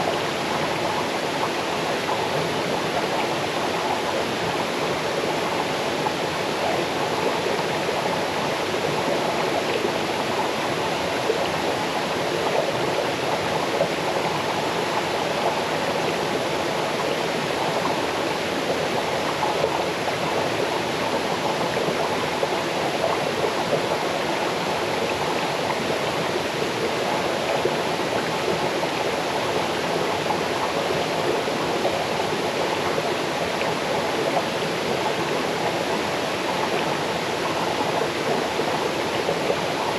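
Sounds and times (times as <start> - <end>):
small waterfall into stream: 0.0 - 39.9.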